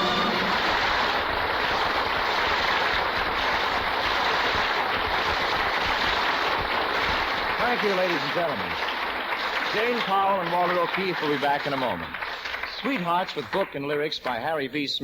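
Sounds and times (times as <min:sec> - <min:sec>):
studio audience applauding: 0:00.0 - 0:14.6.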